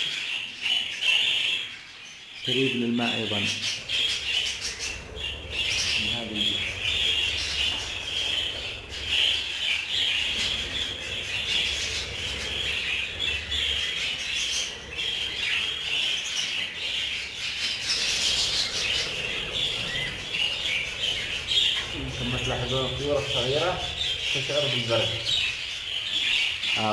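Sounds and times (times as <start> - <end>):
flock of budgerigars chirping: 0.0 - 26.9.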